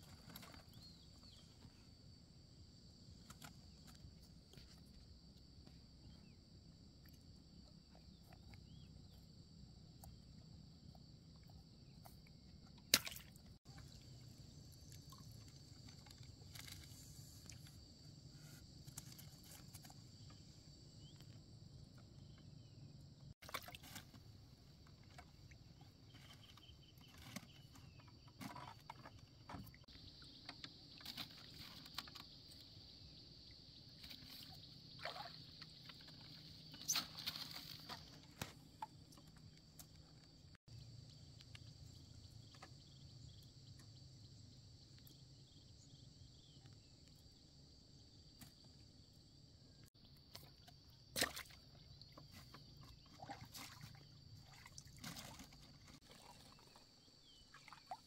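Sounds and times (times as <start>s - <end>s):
quiet water sounds: 0.0s - 47.5s, 48.2s - 58.0s.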